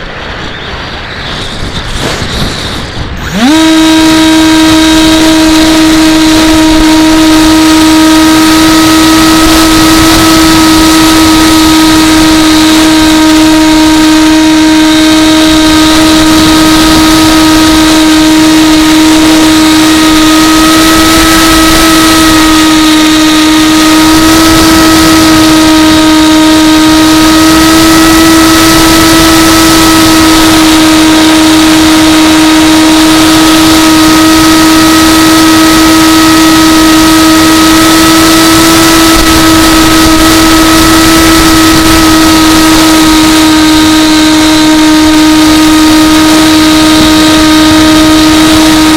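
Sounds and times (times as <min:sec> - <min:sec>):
model plane motor whine: 0:00.0 - 0:48.9.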